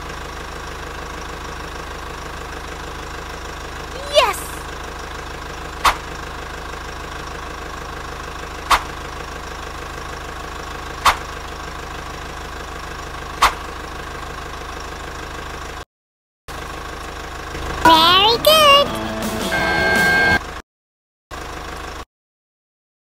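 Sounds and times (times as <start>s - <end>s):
excavator engine idling: 0.0s - 15.8s, 16.5s - 20.6s, 21.3s - 22.0s.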